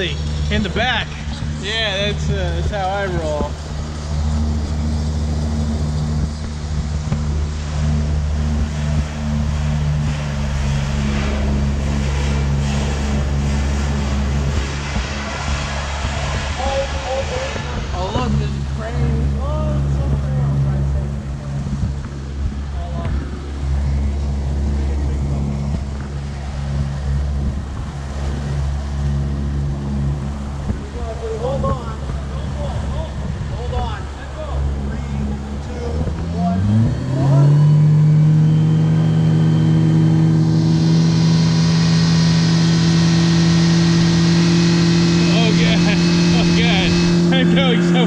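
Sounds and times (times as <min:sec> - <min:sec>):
boat motor running: 0:00.0 - 0:48.0
rushing water noise: 0:00.0 - 0:48.0.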